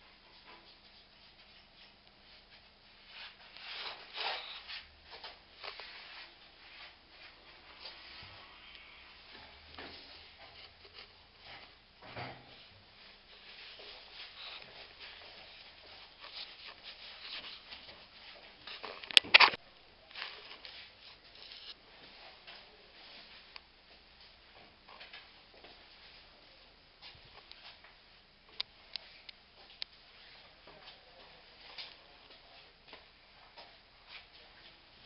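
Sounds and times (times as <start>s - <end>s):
rustling of handheld movement: 0.0s - 35.0s.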